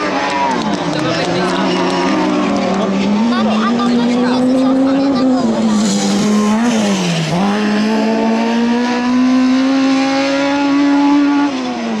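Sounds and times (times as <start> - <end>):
buggy engines at high revs: 0.0 - 12.0.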